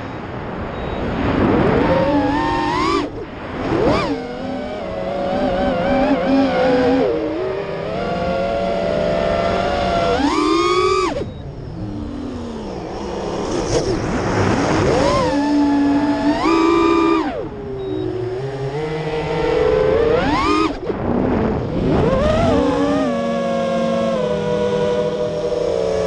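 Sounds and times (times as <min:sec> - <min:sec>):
quadcopter motors whining: 0:01.8 - 0:26.0.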